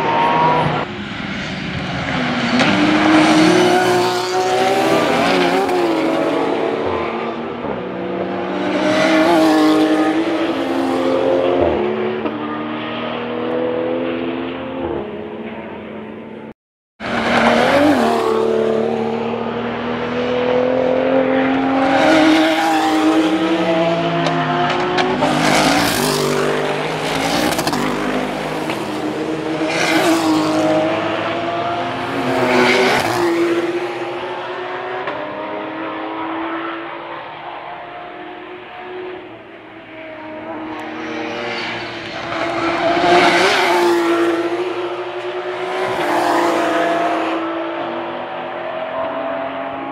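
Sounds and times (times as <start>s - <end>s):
race cars passing: 0.0s - 49.9s.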